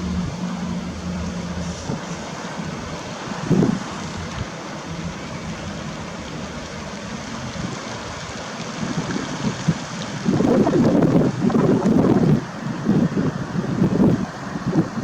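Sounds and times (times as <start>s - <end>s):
wind and water hiss: 0.0s - 15.0s
wind buffeting microphone: 0.0s - 15.0s.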